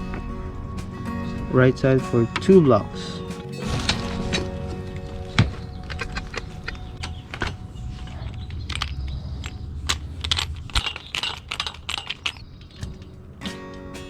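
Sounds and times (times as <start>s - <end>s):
metal pipes clicking and clinking: 1.7s - 14.0s.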